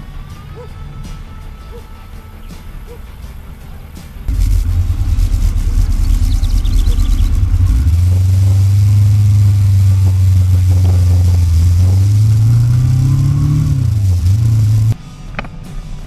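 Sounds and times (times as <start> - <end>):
motorcycle engine riding: 2.4 - 15.5.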